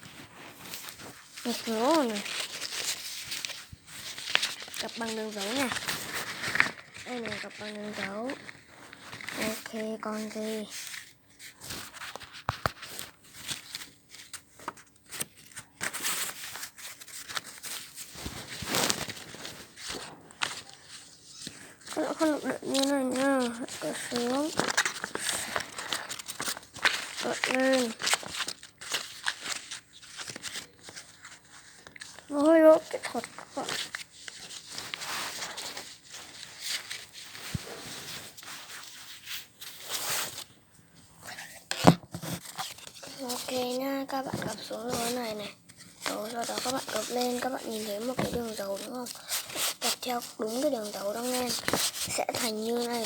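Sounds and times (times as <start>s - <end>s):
paper being folded and creased: 0.0s - 40.6s, 41.2s - 53.0s.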